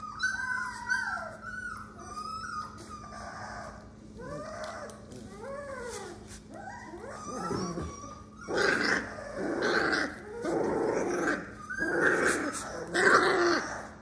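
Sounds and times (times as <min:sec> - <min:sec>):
puppies whining: 0:00.0 - 0:14.0
puppy play growls: 0:00.0 - 0:14.0.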